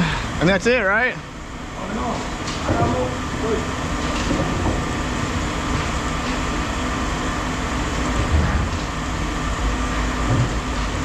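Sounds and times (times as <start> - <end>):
heavy machinery rumbling: 0.0 - 11.0.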